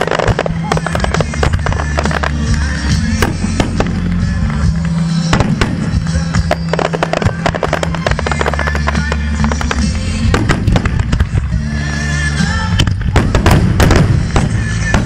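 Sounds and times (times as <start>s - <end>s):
fireworks bursting and crackling: 0.0s - 15.0s
music: 0.0s - 15.0s.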